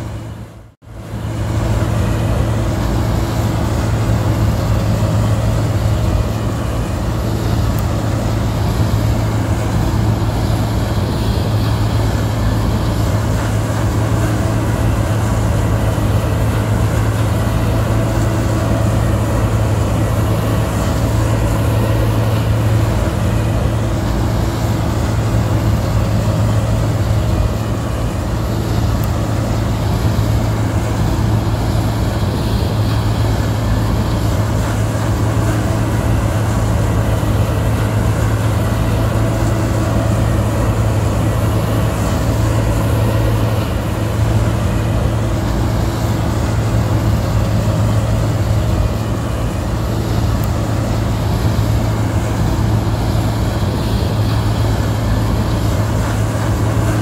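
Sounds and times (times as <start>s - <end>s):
machine humming steadily: 0.0s - 57.0s.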